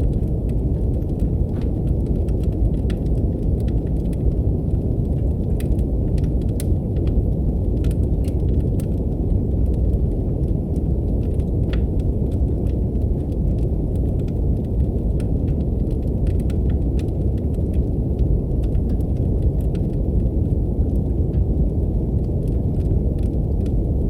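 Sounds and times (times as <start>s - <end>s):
brown noise hiss: 0.0s - 24.0s
wood fire crackling: 0.0s - 24.0s.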